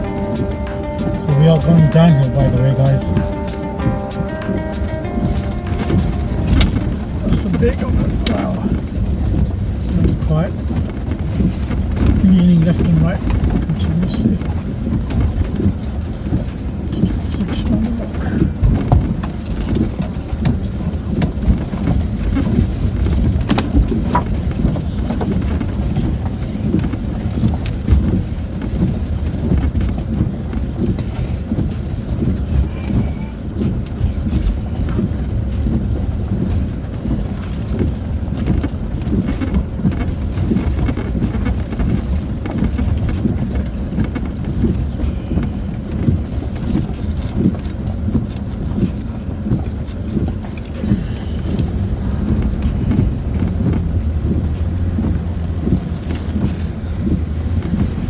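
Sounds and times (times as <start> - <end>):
engine and tyres rumbling: 0.0 - 58.0
suspension knocks and clunks: 0.0 - 58.0.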